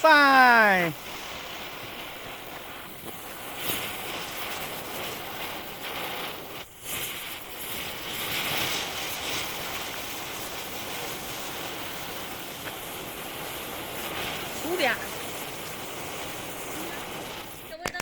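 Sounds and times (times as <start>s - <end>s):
fireworks hissing: 0.0s - 18.0s.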